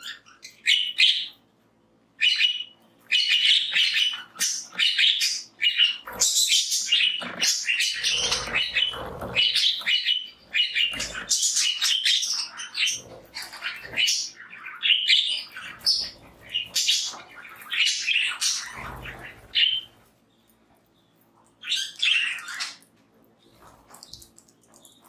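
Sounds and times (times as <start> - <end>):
budgerigars chirping and chattering: 0.0 - 1.4, 2.2 - 20.1, 21.0 - 25.0.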